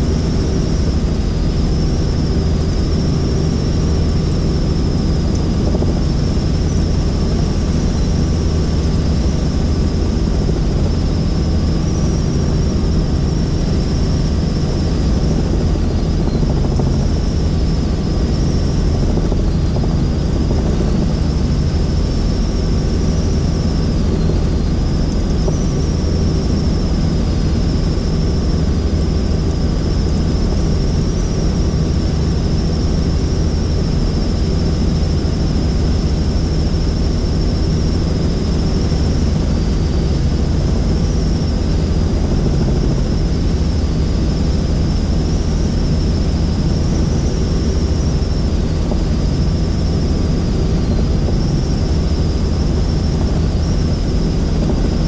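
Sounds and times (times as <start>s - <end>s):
helicopter rotor and engine: 0.0s - 55.0s
high whine: 0.0s - 55.0s.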